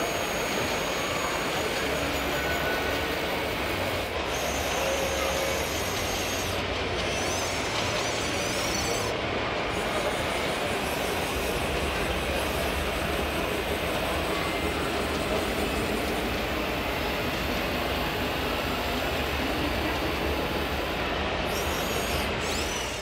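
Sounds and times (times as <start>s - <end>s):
crowd chatter: 0.0s - 23.0s
model machinery noise: 0.0s - 23.0s.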